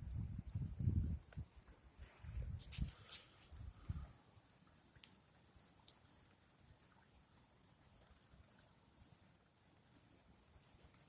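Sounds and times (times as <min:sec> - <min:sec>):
fish deep-frying sizzle: 0:00.0 - 0:11.0.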